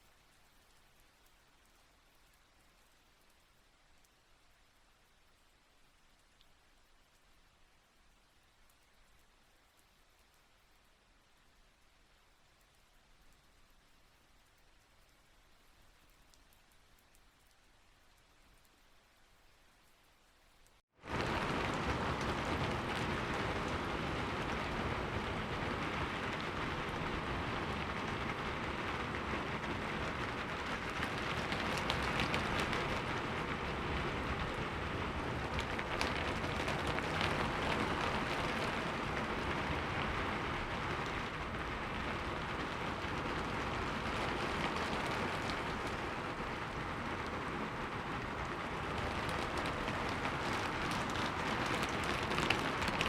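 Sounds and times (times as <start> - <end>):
heavy rain pouring: 0.0 - 53.0
raindrops ticking: 0.0 - 53.0.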